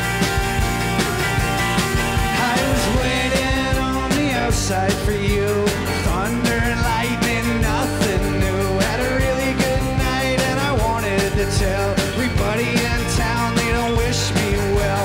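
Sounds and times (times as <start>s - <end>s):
acoustic guitar: 0.0s - 15.0s
bass: 0.0s - 15.0s
drums: 0.0s - 15.0s
electric guitar: 0.0s - 15.0s
keyboard: 0.0s - 15.0s.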